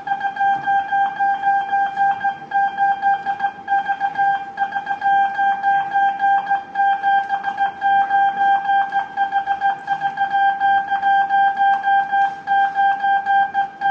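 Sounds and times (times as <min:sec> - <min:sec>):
morse code beeps: 0:00.0 - 0:13.9.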